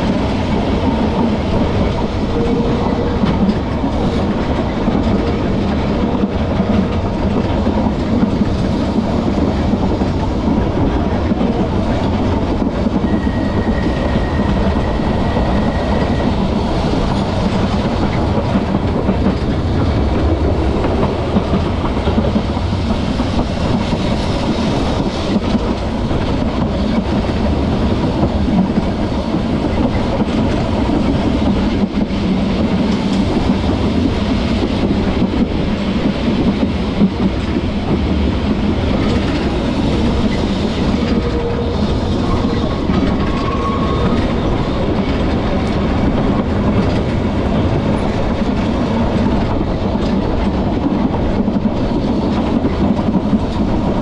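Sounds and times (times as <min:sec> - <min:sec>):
tram wheels rattling on rails: 0:00.0 - 0:54.0.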